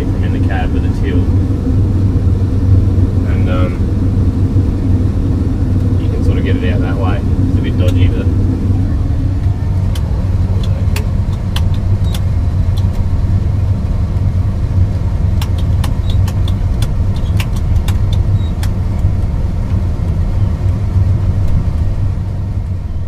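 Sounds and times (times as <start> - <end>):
sharp clicks and rattles: 0.0 - 13.1, 14.1 - 22.8
crop sprayer droning from cab: 0.0 - 23.0.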